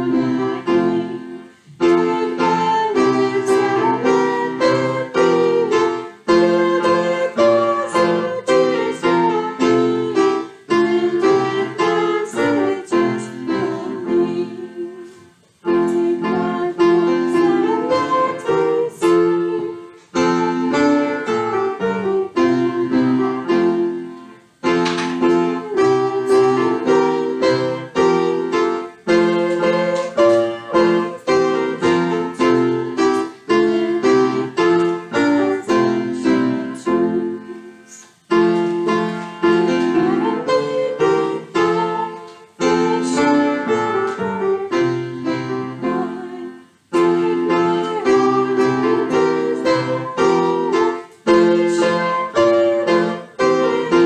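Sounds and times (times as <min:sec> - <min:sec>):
piano playing hymn chords: 0:00.0 - 0:54.0.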